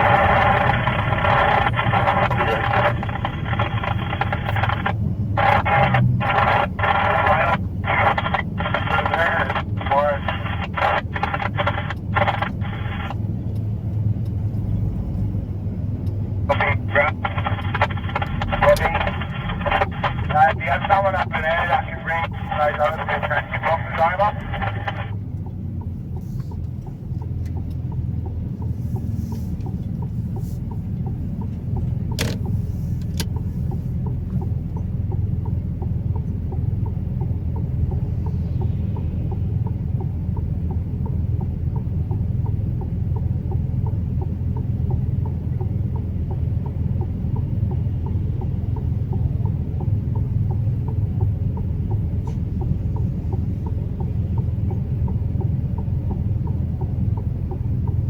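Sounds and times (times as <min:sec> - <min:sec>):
truck engine and road noise: 0:00.0 - 0:58.0.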